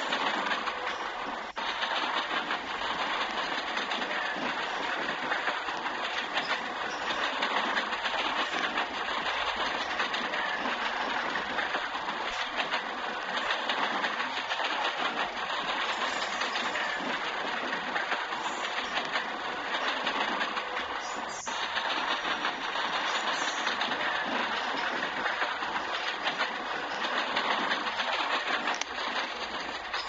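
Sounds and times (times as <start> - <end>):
train wheels rattling on track: 0.0 - 30.0.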